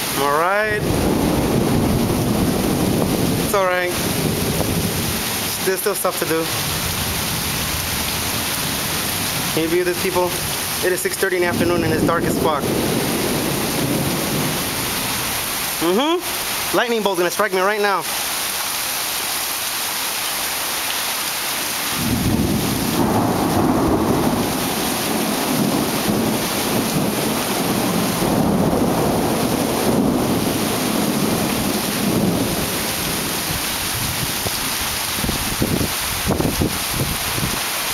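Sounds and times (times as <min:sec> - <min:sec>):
steady rain: 0:00.0 - 0:37.9
rolling thunder: 0:00.7 - 0:15.5, 0:21.9 - 0:37.6.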